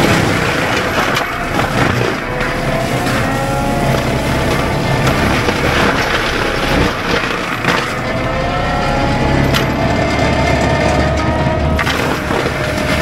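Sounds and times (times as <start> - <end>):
debris knocking on machine: 0.0 - 8.6, 9.3 - 13.0
diesel engine running under load: 0.0 - 13.0
mulcher head whine: 0.0 - 13.0.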